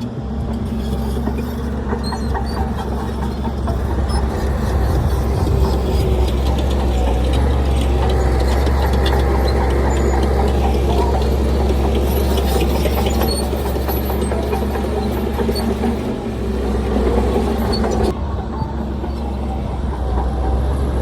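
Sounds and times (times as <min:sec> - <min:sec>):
heavy diesel engine drone: 0:00.0 - 0:21.0.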